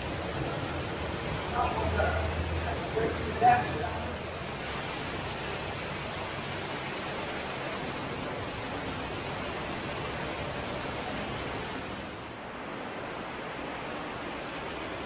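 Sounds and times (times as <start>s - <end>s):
cave stream rushing water: 0.0s - 15.0s.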